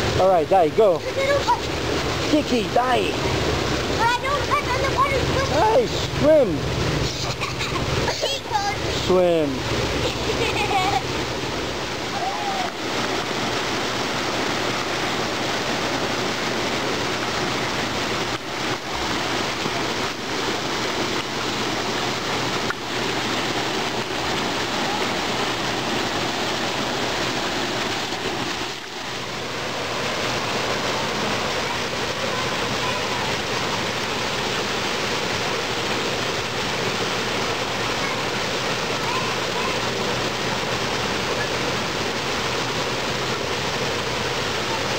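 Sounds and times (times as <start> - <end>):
water rushing into pool: 0.0 - 44.9.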